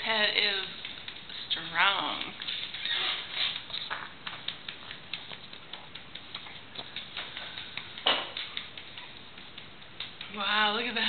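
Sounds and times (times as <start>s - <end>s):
light irregular ticks and taps: 0.0s - 11.0s.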